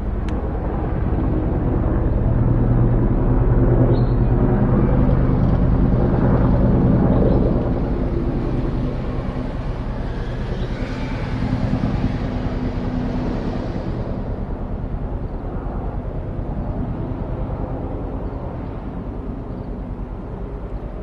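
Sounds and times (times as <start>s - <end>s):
helicopter engine and rotor: 0.0s - 21.0s.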